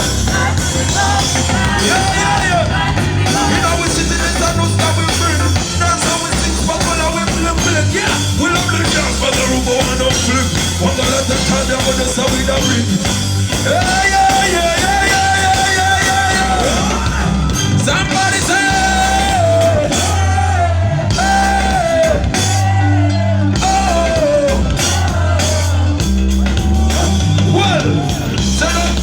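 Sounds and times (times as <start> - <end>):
pulsing bass beat: 0.0 - 29.0.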